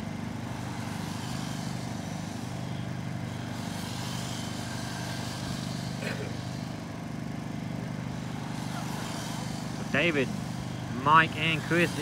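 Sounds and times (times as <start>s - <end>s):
electric toy truck motors whining: 0.0s - 12.0s.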